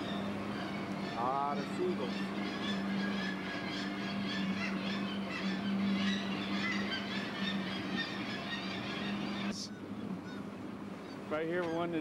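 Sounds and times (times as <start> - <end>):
boat engine humming: 0.0 - 12.0
seabird colony calling: 0.0 - 12.0.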